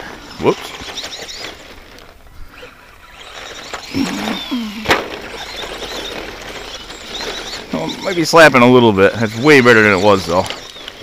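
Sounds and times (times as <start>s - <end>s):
electric motor whirring: 0.7s - 11.0s.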